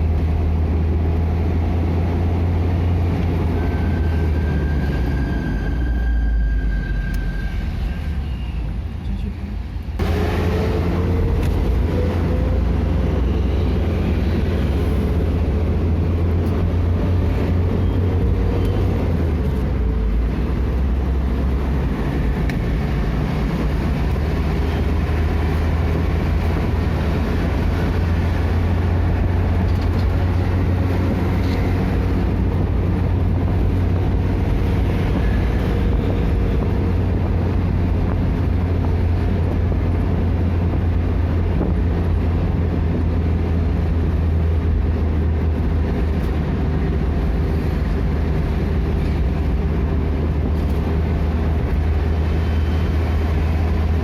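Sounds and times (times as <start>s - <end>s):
vehicle engine and road drone: 0.0s - 54.0s.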